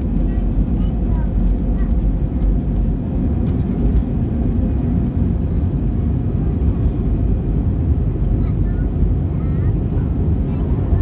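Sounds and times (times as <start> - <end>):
airplane takeoff rumble: 0.0 - 11.0.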